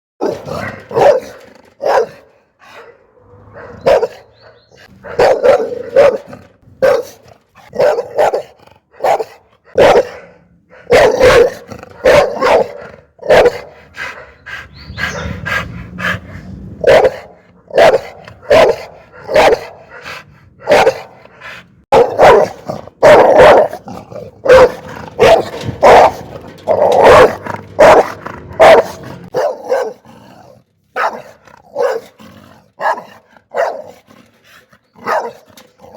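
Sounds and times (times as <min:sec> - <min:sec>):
dog barking angrily: 0:00.2 - 0:34.1, 0:35.0 - 0:35.9.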